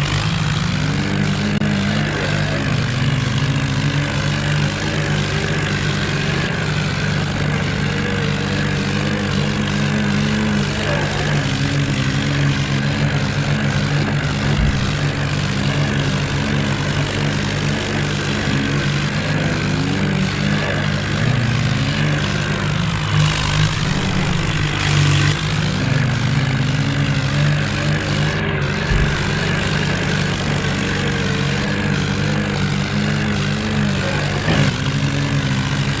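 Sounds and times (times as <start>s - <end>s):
heavy diesel engines under load: 0.0s - 36.0s.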